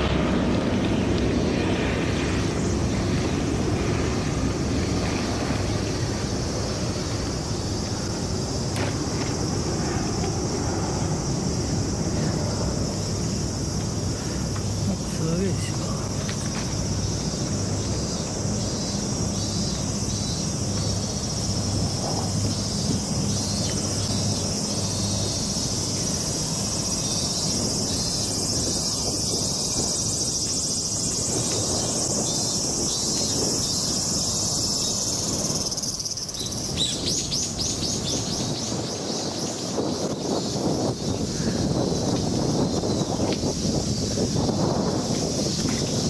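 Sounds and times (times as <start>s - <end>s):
cicadas shrilling: 0.0s - 46.0s.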